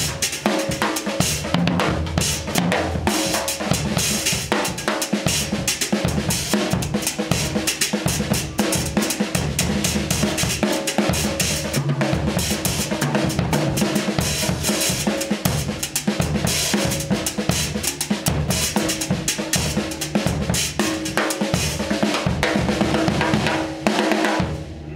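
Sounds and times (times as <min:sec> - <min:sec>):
cymbals: 0:00.0 - 0:24.9
drum kit solo: 0:00.0 - 0:24.9.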